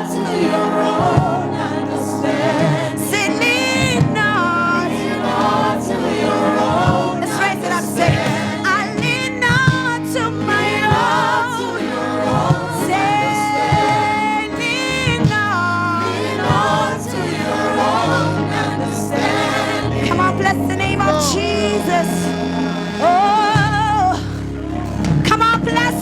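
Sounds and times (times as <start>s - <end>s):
gospel choir singing: 0.0s - 26.0s
steady bass notes: 0.0s - 26.0s.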